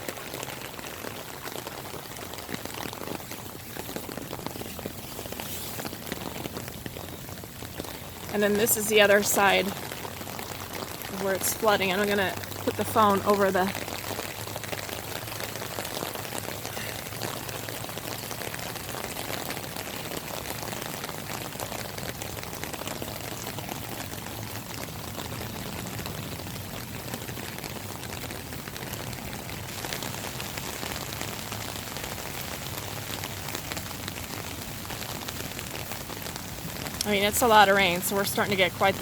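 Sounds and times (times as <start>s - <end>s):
heavy rain pattering on water: 0.0s - 39.0s.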